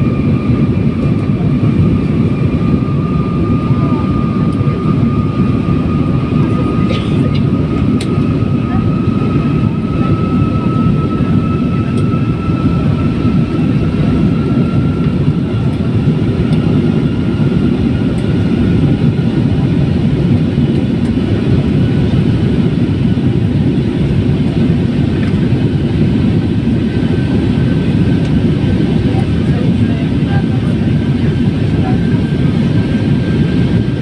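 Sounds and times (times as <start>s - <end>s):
jet engine cabin rumble: 0.0s - 34.0s.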